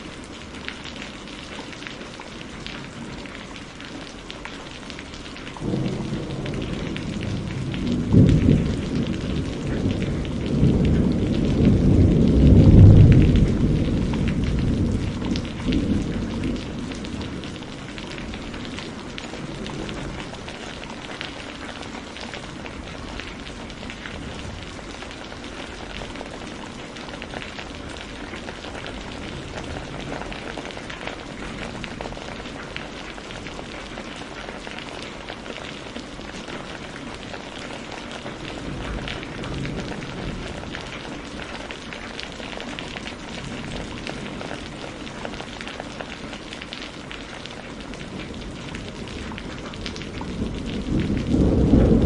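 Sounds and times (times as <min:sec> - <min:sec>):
steady rain falling: 0:00.0 - 0:52.0
low rumble of thunder: 0:05.0 - 0:52.0.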